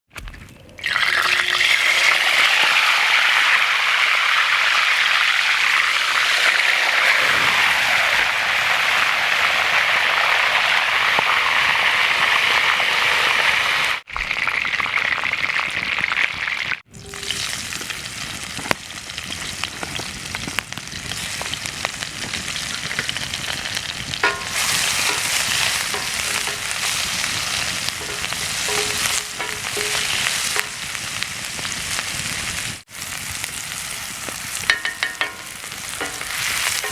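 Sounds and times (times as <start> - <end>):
fish sizzling in hot oil: 0.8 - 36.9.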